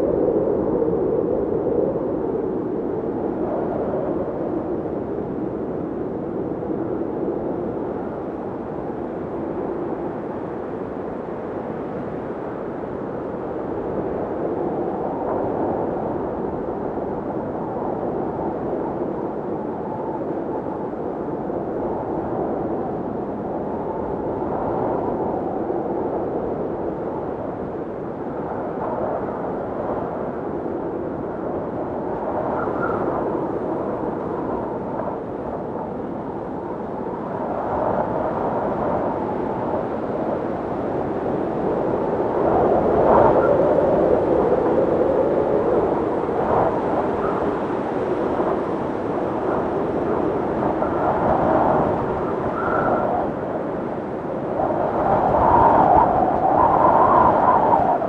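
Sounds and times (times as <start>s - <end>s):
blizzard wind gusting: 0.0s - 58.0s
whistling wind tones: 0.0s - 58.0s.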